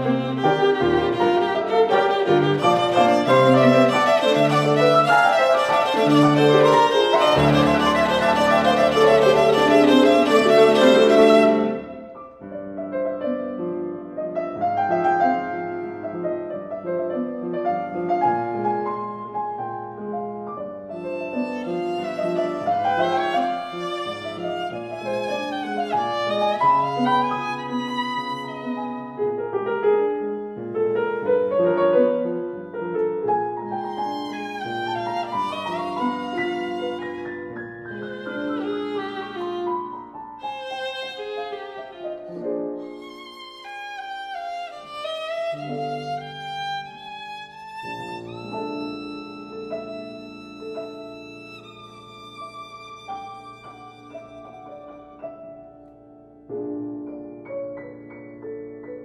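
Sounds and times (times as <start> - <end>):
bowed string instrument: 0.0 - 57.1
grand piano: 0.0 - 59.0.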